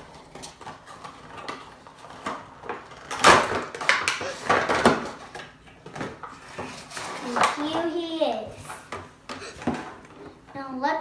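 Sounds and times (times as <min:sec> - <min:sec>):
cardboard and plastic packaging rustling: 0:00.0 - 0:10.5.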